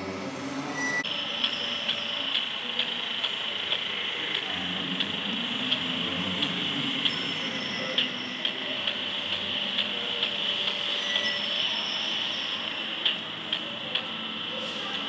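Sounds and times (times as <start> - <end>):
model railway running hum: 0.0 - 15.0.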